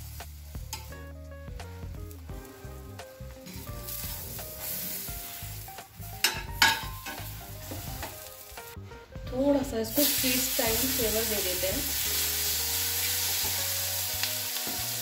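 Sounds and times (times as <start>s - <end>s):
butter sizzling in a pan: 0.0s - 8.8s, 9.9s - 15.0s.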